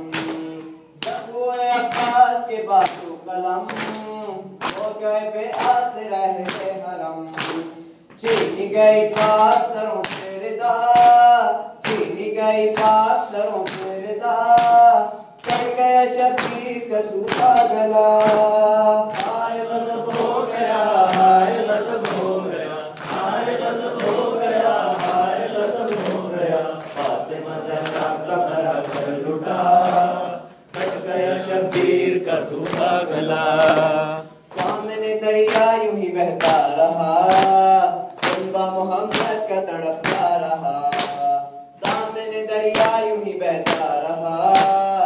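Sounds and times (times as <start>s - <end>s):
hands slapping chests: 0.0s - 12.2s, 12.8s - 39.4s, 40.0s - 42.1s, 42.7s - 43.0s, 43.6s - 44.9s
men chanting a lament: 0.0s - 45.0s.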